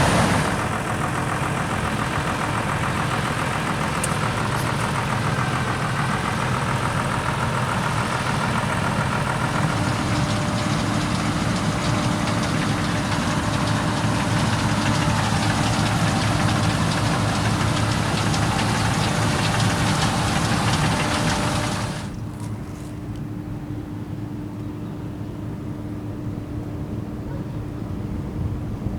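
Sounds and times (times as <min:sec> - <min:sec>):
combine harvester running: 0:00.0 - 0:28.9.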